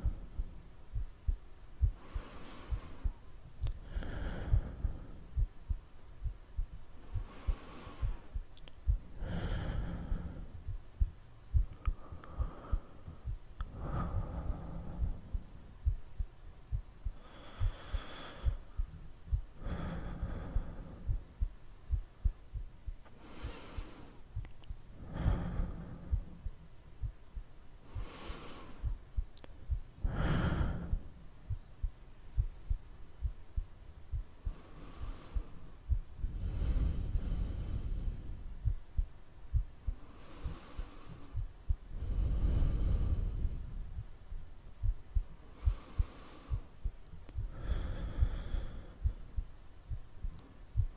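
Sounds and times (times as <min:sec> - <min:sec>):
slow heavy breathing: 0:00.0 - 0:16.3, 0:17.0 - 0:27.2, 0:27.8 - 0:50.9
low heartbeat thuds: 0:00.0 - 0:50.9.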